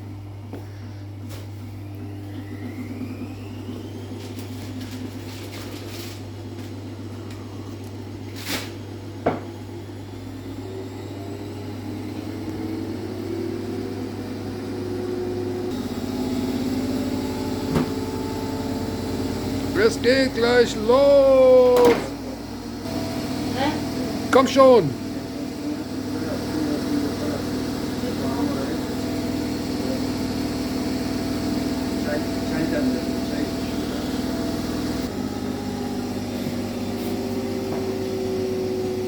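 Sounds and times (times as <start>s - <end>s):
drain pump hum: 0.0s - 39.0s
washing machine spinning: 0.0s - 39.0s.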